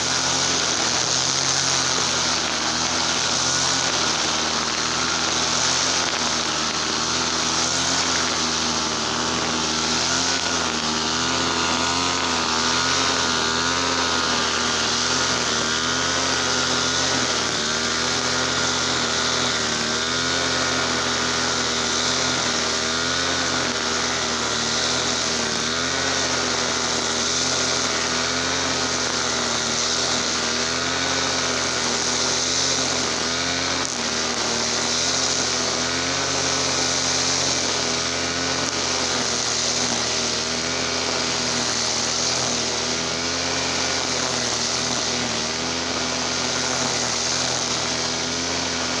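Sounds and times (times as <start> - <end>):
brush cutter engine running: 0.0 - 49.0.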